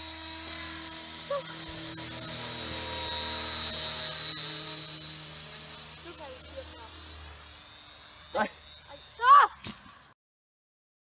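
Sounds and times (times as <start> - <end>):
rotor hum: 0.0 - 9.6
model helicopter motor whine: 0.0 - 10.2.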